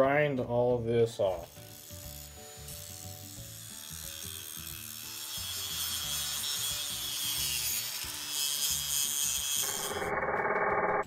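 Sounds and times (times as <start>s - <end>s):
background music with low notes: 0.0s - 9.8s
angle grinder grinding steel: 1.3s - 10.2s.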